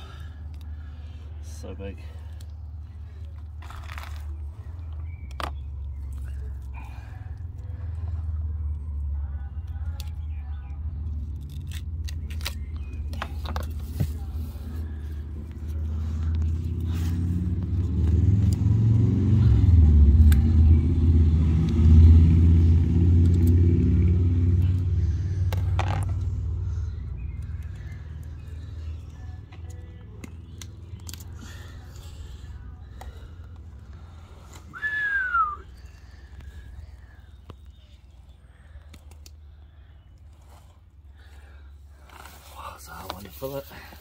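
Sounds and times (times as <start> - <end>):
motor vehicle rumble: 0.0 - 44.0.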